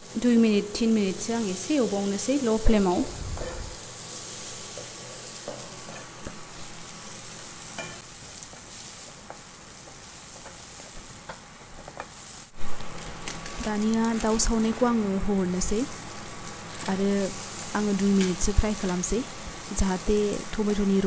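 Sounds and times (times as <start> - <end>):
masala sizzling in a pan: 0.0 - 21.0.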